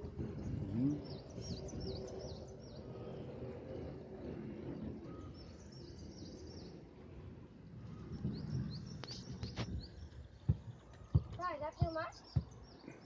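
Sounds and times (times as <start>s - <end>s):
steady low rumble: 0.0s - 12.8s
small birds chirping: 0.0s - 13.0s.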